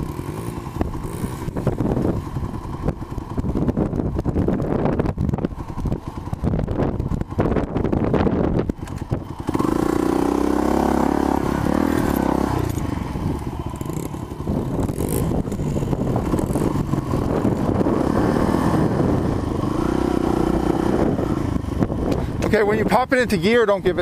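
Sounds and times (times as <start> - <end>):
dirt bike engine revving: 0.0 - 22.4.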